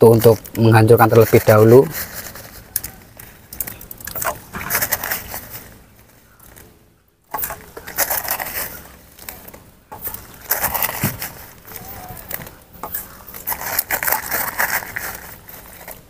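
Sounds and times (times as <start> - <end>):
salt crushing and scraping: 0.0 - 6.6, 7.3 - 16.0.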